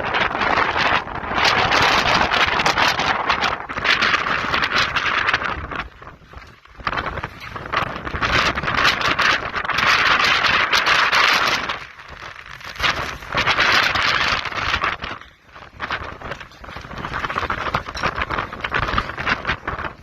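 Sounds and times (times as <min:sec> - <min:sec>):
strong gusting wind: 0:00.0 - 0:20.0
wind noise on microphone: 0:00.0 - 0:20.0.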